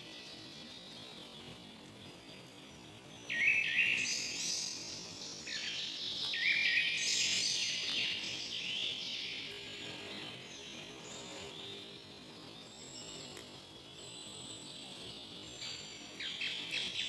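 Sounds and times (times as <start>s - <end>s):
songbirds chirping: 0.0s - 17.0s
steady high hiss: 0.0s - 17.0s.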